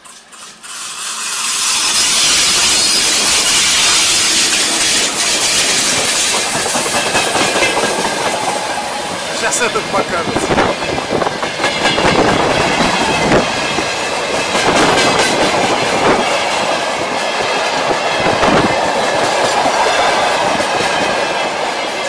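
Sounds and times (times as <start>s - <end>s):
train cars rumbling: 0.0s - 22.0s
wheels clattering over rail joints: 0.0s - 22.0s.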